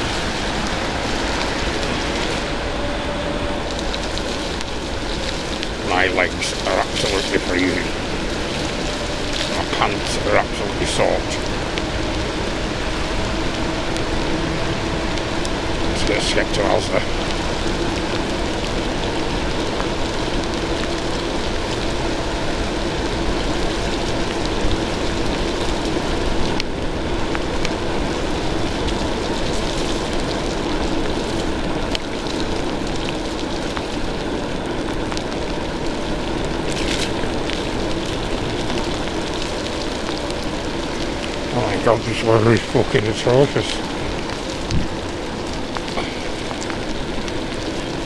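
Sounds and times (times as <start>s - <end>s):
heavy rain: 0.0s - 48.0s
wet road noise: 0.0s - 48.0s.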